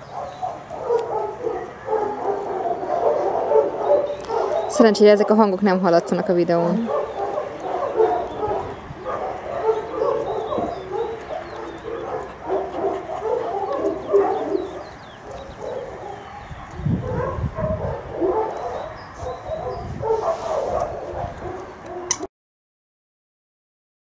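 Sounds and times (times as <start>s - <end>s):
small birds chirping: 0.0s - 22.2s
dogs barking and yipping: 0.0s - 22.3s.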